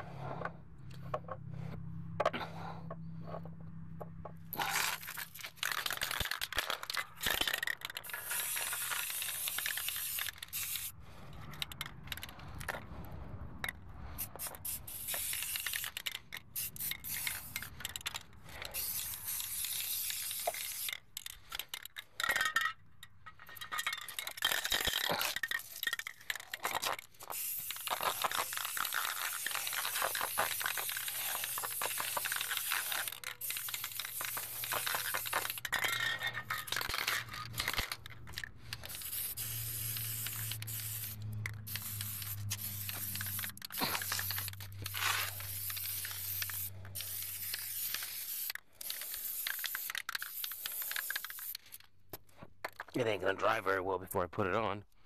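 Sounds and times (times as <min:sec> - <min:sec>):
rough scraping and hissing: 0:04.5 - 0:22.2, 0:23.8 - 0:51.9.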